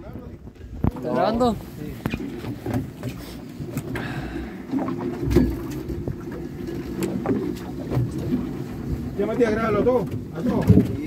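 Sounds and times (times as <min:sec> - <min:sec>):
boat motor humming: 0:01.2 - 0:11.0.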